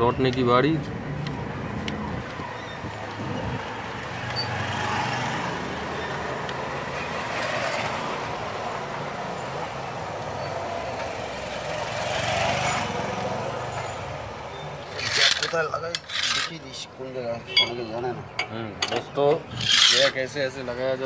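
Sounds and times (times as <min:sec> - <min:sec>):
road traffic rumble: 0:00.0 - 0:21.0
vehicles passing: 0:00.0 - 0:21.0.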